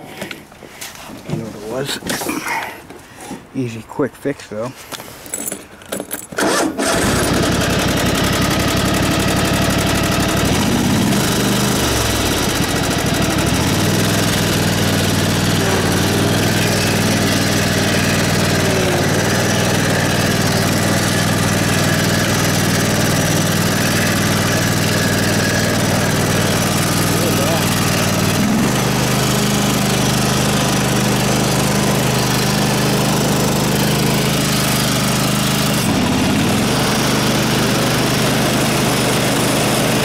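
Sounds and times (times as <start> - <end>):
tractor engine starting and running: 5.3 - 40.0.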